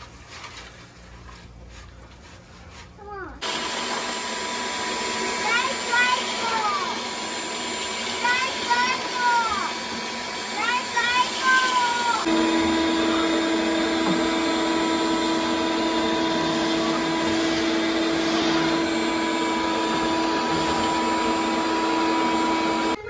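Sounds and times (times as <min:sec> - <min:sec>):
vacuum cleaner motor running: 0:03.4 - 0:23.0.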